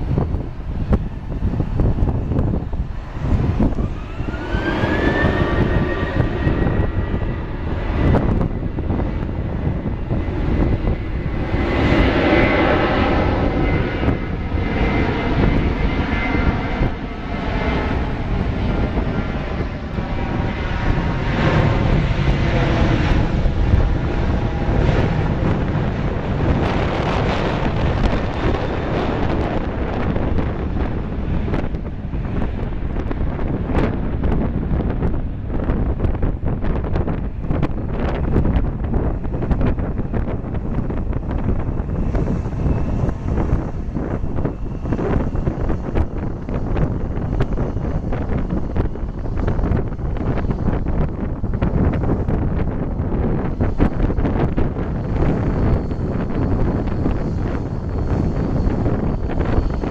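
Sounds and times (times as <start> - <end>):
jet engine whine: 0.0 - 59.9
loud jet rumble: 0.0 - 59.9.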